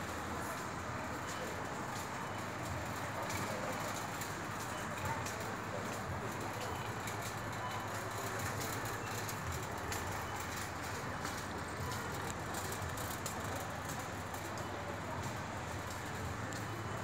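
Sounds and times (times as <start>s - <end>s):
faint clicks and clatter: 0.0s - 17.0s.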